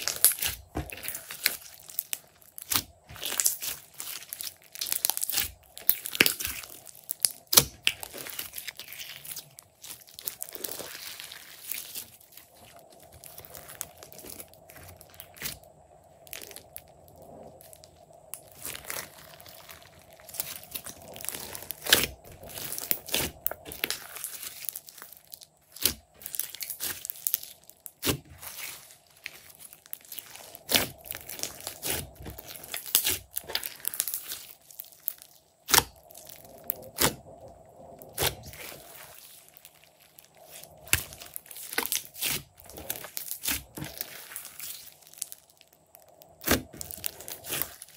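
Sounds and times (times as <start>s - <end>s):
slime squishing and popping: 0.0s - 17.0s, 17.6s - 47.9s.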